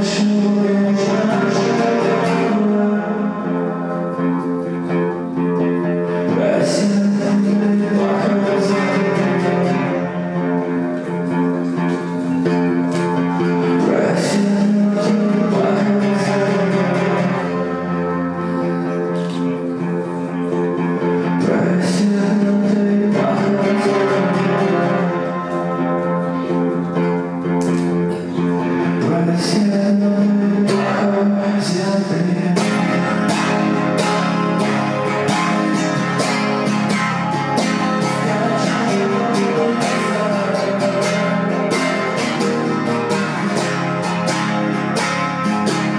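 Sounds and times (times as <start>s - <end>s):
acoustic guitar strumming chords: 0.0s - 45.9s.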